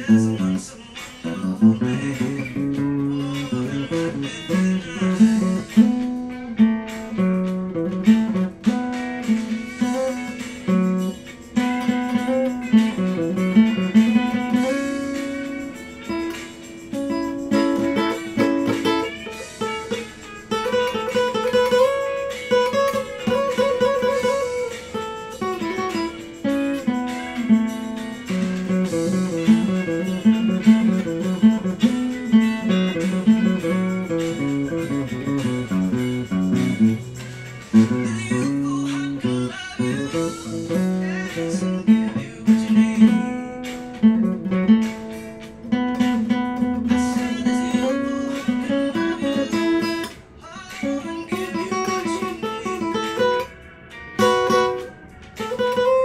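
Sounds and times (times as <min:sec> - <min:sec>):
acoustic guitar solo: 0:00.0 - 0:56.0.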